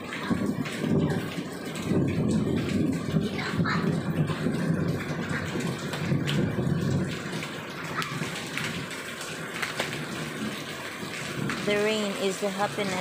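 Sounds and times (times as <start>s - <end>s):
rain: 0.0s - 13.0s
water running and splashing: 0.0s - 13.0s.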